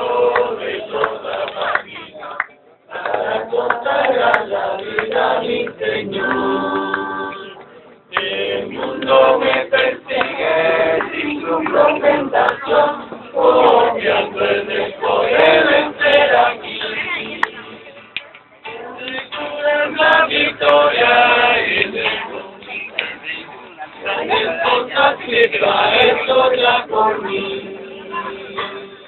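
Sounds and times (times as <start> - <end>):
group of voices singing: 0.0 - 17.9, 18.6 - 29.0.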